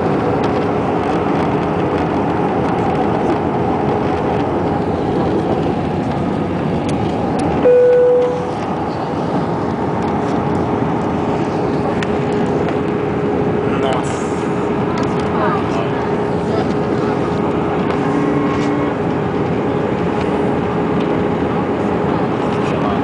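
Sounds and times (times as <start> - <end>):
airplane cabin engine noise: 0.0 - 23.0.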